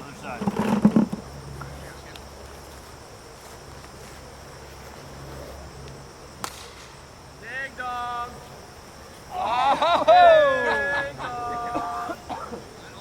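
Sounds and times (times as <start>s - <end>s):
high insect chorus: 0.0s - 13.0s
low outdoor hum: 0.0s - 13.0s.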